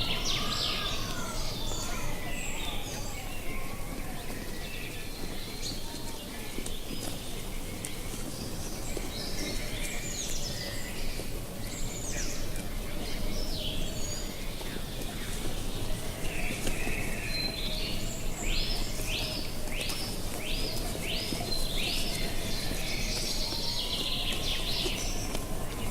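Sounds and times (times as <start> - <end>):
low rush of wind: 0.0 - 25.9
small birds chirping: 0.0 - 25.9.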